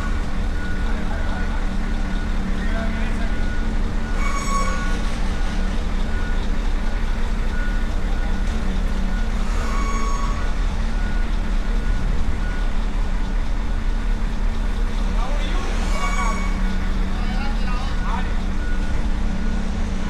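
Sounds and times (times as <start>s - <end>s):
reversing alarm beeping: 0.0s - 13.9s, 14.7s - 20.0s
heavy vehicle engines rumbling: 0.0s - 20.0s.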